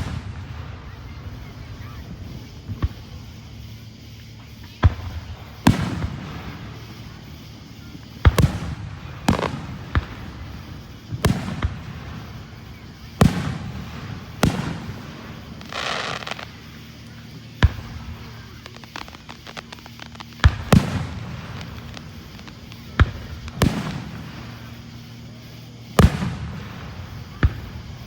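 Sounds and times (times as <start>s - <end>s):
fireworks booming: 0.0s - 28.0s.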